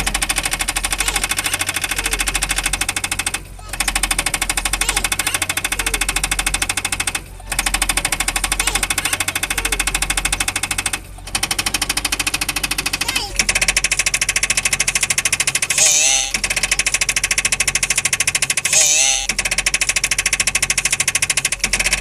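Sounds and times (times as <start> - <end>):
machine clattering rapidly: 0.0 - 22.0.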